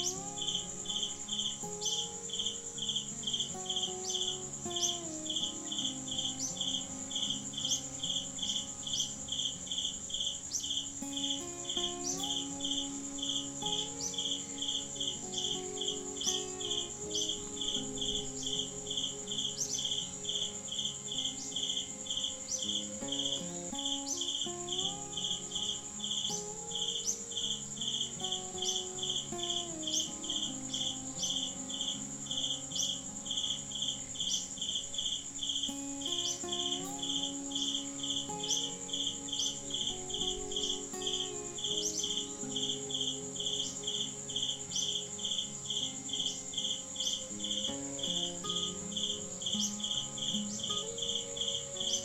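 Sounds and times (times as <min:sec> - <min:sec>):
crickets chirping: 0:00.0 - 0:52.0
high insect trill: 0:00.0 - 0:52.0
low sustained tones: 0:00.0 - 0:52.0.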